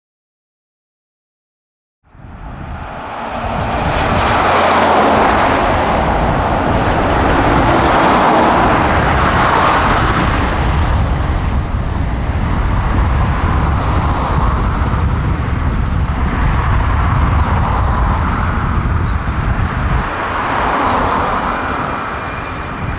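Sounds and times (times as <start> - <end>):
jet engines at takeoff power: 2.1 - 22.9.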